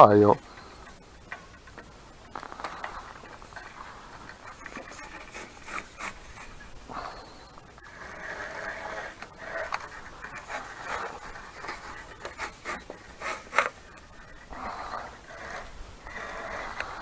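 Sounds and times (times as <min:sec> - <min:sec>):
handling rubbing and clicking: 0:00.0 - 0:17.0
person breathing hard: 0:02.5 - 0:17.0.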